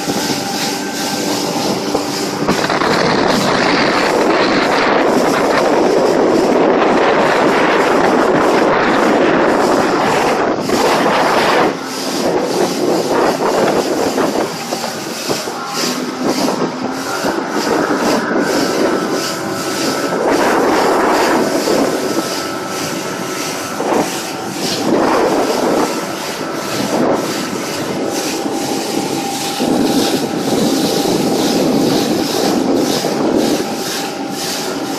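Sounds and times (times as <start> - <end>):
hull slapping through waves: 0.0 - 34.9
outboard motor rumble: 0.0 - 34.9
wind on microphone: 0.0 - 34.9.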